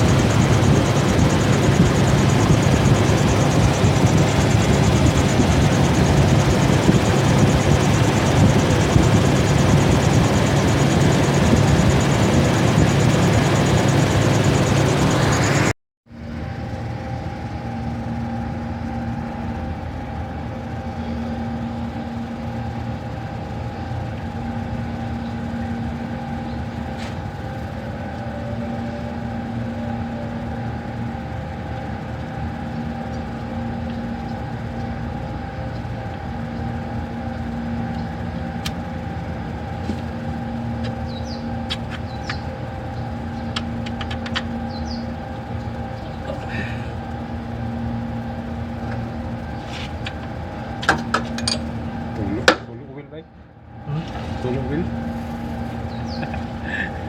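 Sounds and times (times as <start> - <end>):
motorcycle engine running: 0.0 - 52.7, 53.7 - 57.0.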